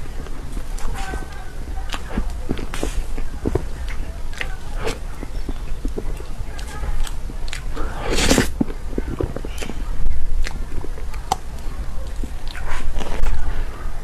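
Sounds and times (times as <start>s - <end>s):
mouth chewing cake: 0.0s - 14.0s.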